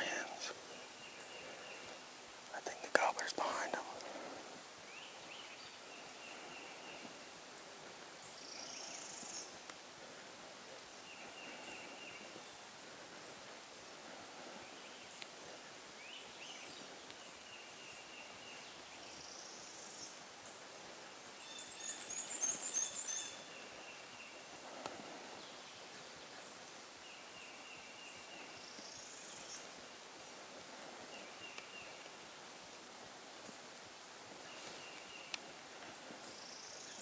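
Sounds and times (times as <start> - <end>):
small songbirds singing: 0.0 - 7.4, 8.1 - 9.7, 10.7 - 12.8, 14.1 - 32.2, 34.3 - 37.0.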